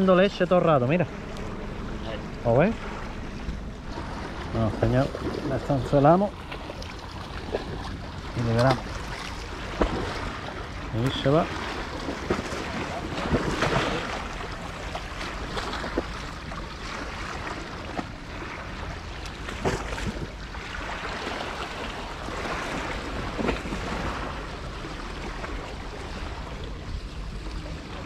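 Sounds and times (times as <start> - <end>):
waves washing against rocks: 4.3 - 26.8.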